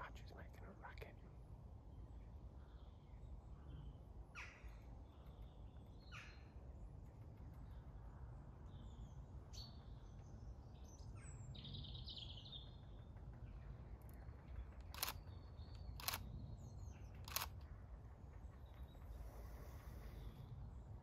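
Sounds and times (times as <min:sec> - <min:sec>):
low steady rumble: 0:00.0 - 0:21.0
small birds calling: 0:00.0 - 0:21.0.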